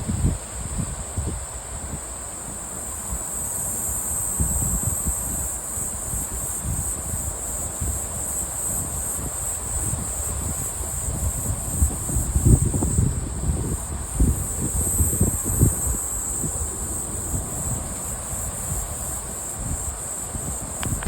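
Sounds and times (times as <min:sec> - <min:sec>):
high-pitched insect chorus: 0:00.0 - 0:21.0
wind buffeting microphone: 0:03.8 - 0:21.0.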